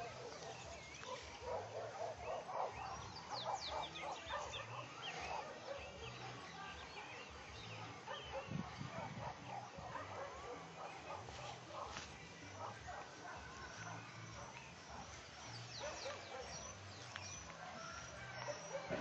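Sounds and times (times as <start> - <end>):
lower repeated bird calls: 0.0 - 19.0.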